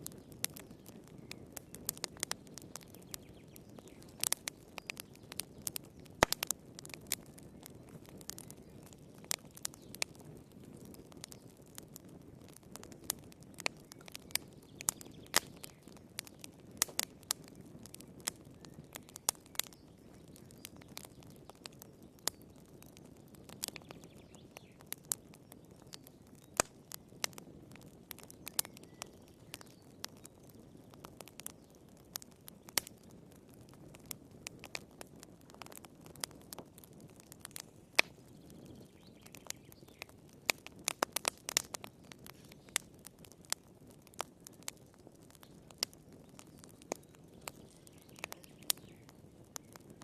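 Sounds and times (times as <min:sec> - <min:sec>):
wood fire crackling: 0:00.0 - 0:50.0
flames rushing: 0:00.1 - 0:24.0, 0:31.0 - 0:50.0.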